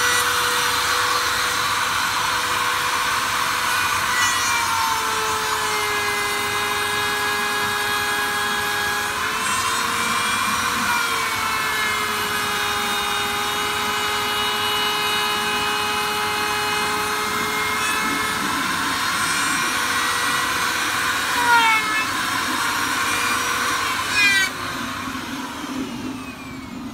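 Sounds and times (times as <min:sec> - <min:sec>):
dust extractor hissing: 0:00.0 - 0:26.9
power tool motor whining: 0:00.0 - 0:26.9.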